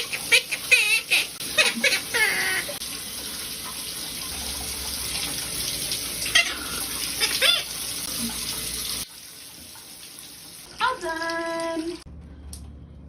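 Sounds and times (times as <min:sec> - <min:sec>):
running water: 0:00.0 - 0:12.1.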